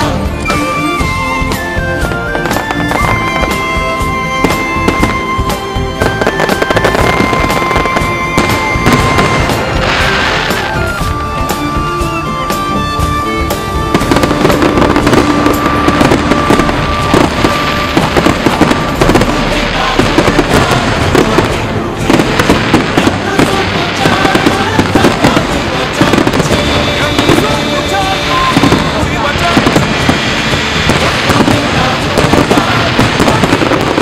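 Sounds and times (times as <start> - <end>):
fireworks crackling and banging: 0.0 - 34.0
music playing: 0.0 - 34.0.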